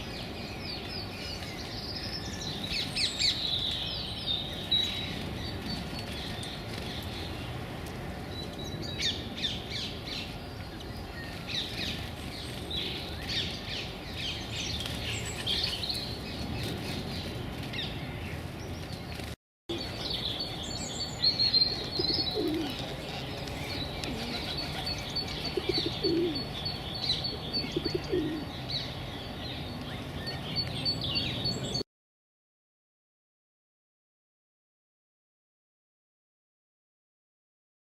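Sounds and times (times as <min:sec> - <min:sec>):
small birds chirping: 0:00.0 - 0:31.8.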